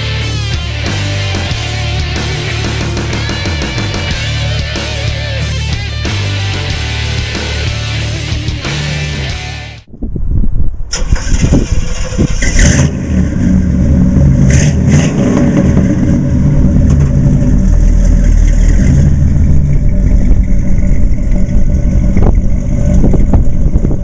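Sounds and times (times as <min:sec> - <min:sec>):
truck engine under throttle: 0:00.0 - 0:09.9, 0:10.9 - 0:24.0.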